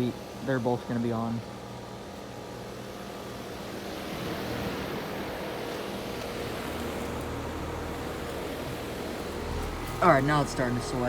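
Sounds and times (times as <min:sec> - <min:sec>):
condenser fan air rush: 0:00.0 - 0:11.0
low even hum: 0:00.0 - 0:11.0.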